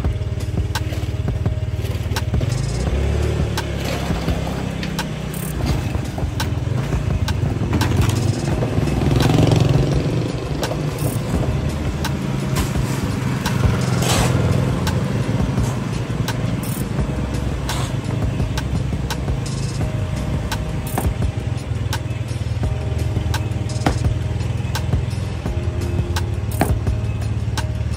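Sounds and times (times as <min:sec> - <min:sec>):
vehicle engines running: 0:00.0 - 0:27.9
knocks and clicks: 0:03.5 - 0:25.6, 0:26.2 - 0:27.0.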